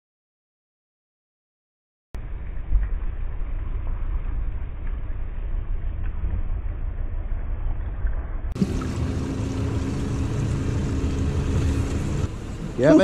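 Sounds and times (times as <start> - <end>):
boat motor rumbling: 2.2 - 13.0
water noise: 2.2 - 13.0.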